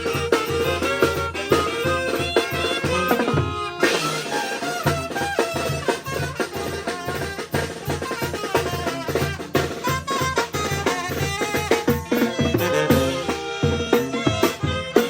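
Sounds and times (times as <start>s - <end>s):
brass band dance tune: 0.0s - 15.0s
drums: 0.0s - 15.0s.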